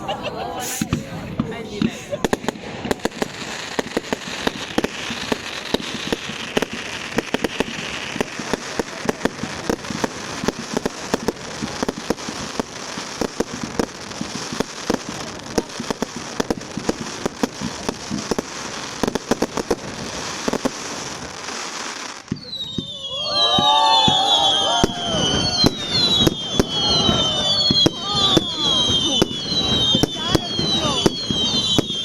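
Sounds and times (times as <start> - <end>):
fireworks banging and crackling: 0.0 - 32.0.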